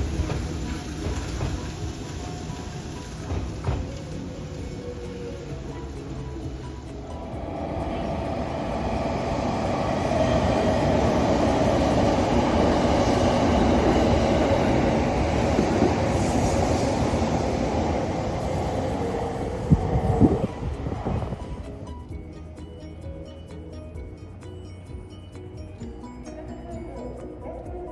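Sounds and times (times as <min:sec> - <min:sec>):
train wheels rumbling on rails: 0:00.0 - 0:22.4.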